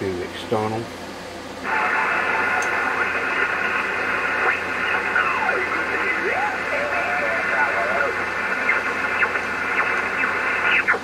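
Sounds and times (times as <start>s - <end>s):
radio band hiss: 1.6s - 11.0s
radio signals sliding in pitch: 1.6s - 11.0s.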